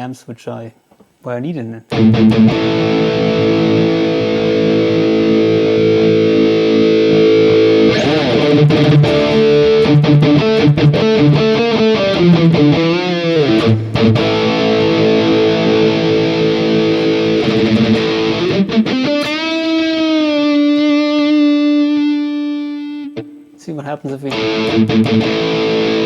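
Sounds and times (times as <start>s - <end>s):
electric guitar riffing: 1.9s - 26.0s.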